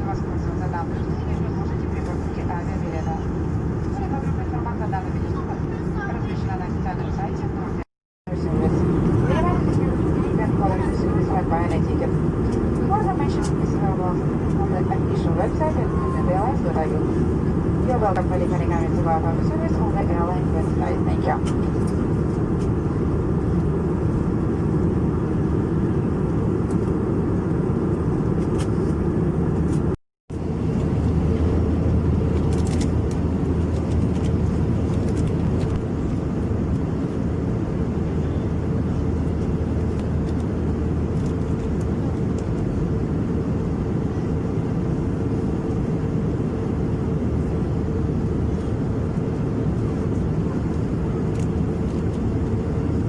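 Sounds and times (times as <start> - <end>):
airplane cabin drone: 0.0 - 53.0.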